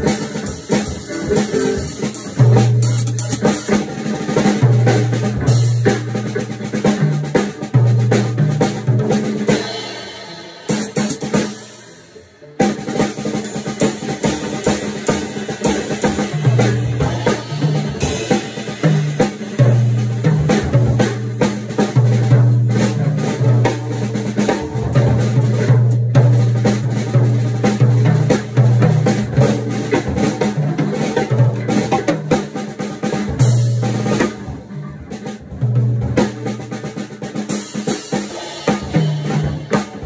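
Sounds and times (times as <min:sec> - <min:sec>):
jazz drum solo: 0:00.0 - 0:40.0.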